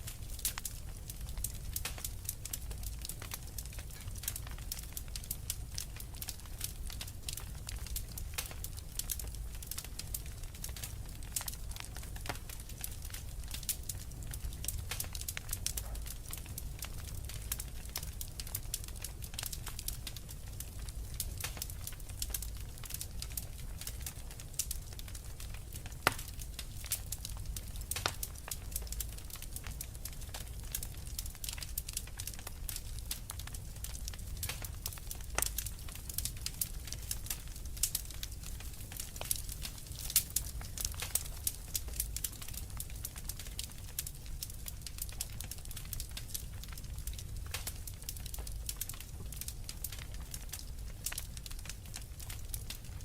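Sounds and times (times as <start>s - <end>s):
fire crackling: 0.0s - 53.0s.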